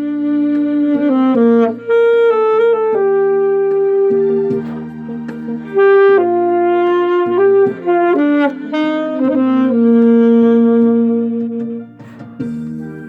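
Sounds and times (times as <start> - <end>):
alto saxophone slow melody: 0.0 - 13.0
backing track: 0.0 - 13.0.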